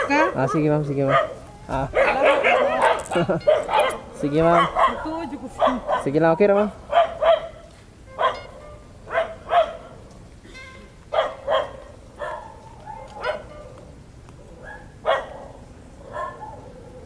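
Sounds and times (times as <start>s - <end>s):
dog barking: 0.0s - 7.6s, 8.2s - 9.9s, 11.1s - 13.6s, 14.6s - 17.0s.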